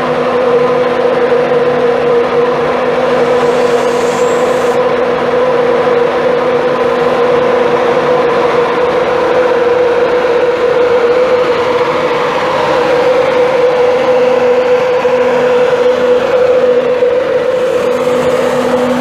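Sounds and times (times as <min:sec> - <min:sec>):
train droning hum: 0:00.0 - 0:19.0.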